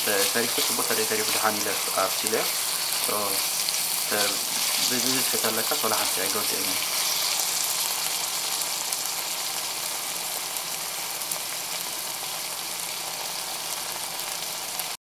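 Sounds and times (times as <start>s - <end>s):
vegetables sizzling in a wok: 0.0s - 15.0s.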